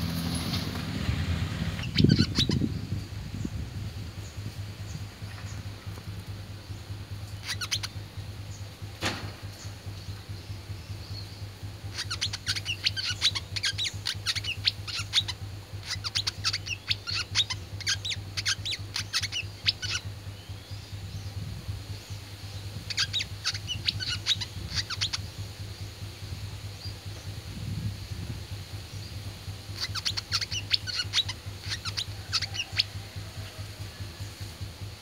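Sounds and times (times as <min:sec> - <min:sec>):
songbird chirping: 0:00.0 - 0:35.0
steady low hum: 0:00.0 - 0:35.0.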